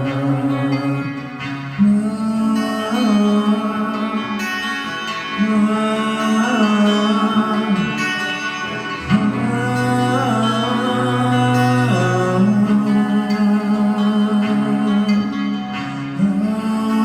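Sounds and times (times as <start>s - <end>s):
slow instrumental worship music: 0.0s - 17.0s.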